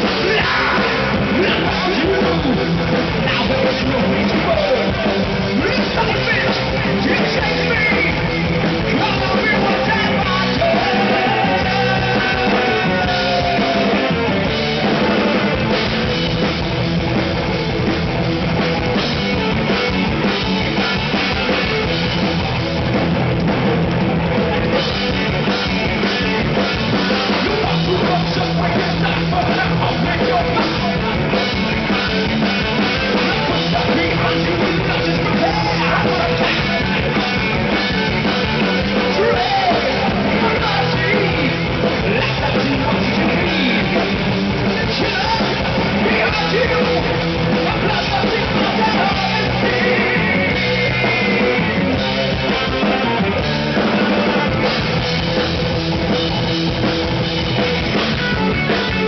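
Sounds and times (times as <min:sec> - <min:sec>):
heavy metal band playing: 0:00.0 - 0:59.0.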